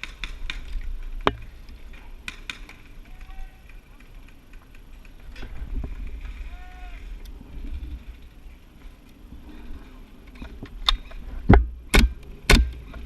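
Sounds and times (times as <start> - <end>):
wind rumble on microphone: 0.1 - 13.0.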